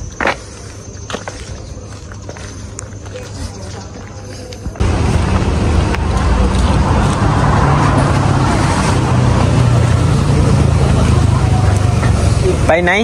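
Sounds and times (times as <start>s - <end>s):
road noise: 0.0s - 13.0s
vehicle engine hum: 0.6s - 13.0s.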